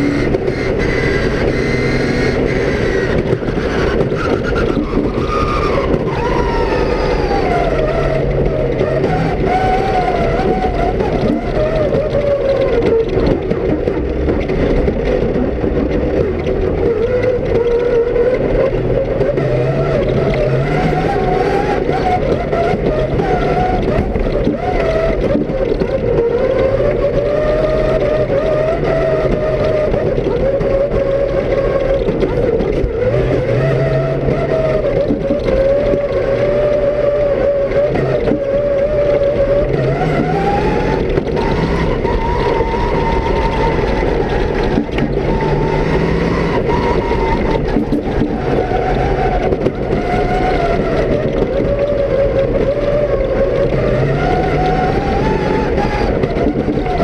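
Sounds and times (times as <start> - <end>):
rally car engine from cabin: 0.0 - 57.0.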